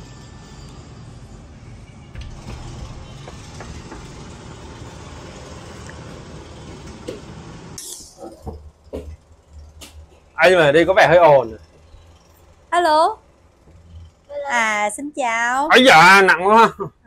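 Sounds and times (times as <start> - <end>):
distant city traffic: 0.0 - 17.0.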